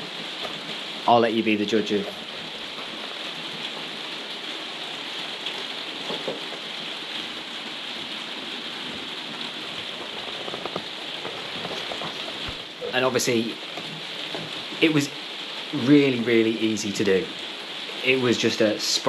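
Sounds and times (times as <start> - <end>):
rain on a conservatory roof: 0.0 - 19.0.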